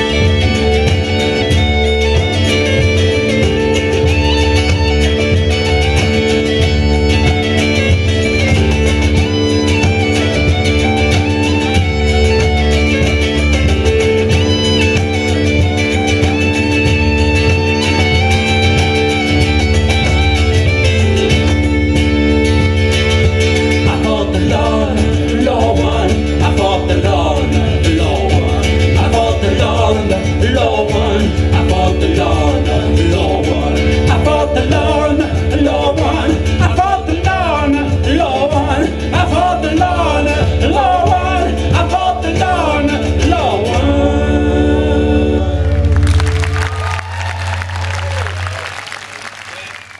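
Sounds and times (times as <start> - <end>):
strummed mandola: 0.0 - 44.2
cajon: 0.0 - 49.9
double bass: 0.0 - 49.9.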